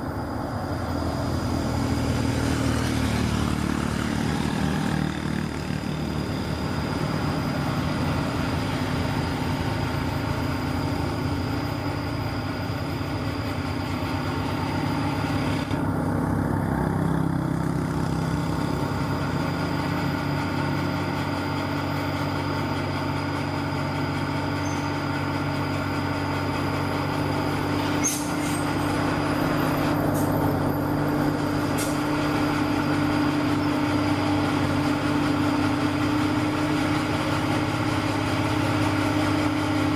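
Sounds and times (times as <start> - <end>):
model excavator mechanical hum: 0.0 - 39.9.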